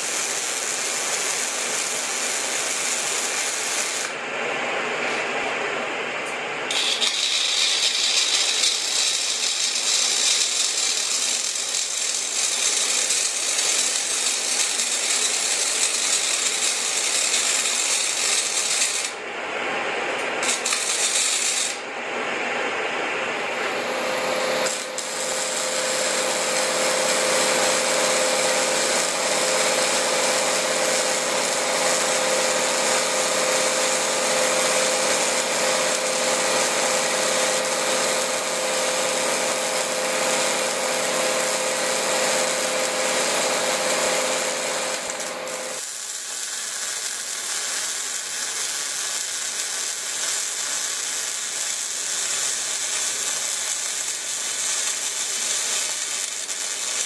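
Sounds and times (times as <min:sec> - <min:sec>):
welding arc crackling: 0:00.0 - 0:04.2, 0:06.7 - 0:19.2, 0:20.4 - 0:21.9, 0:23.7 - 0:57.0.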